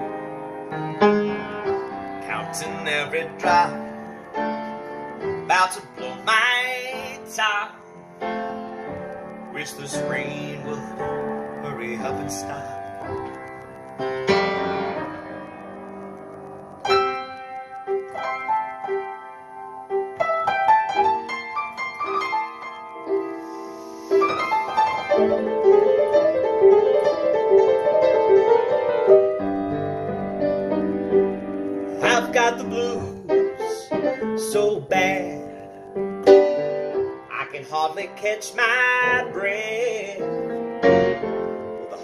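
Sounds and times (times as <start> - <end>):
piano playing chords: 0.0 - 42.0.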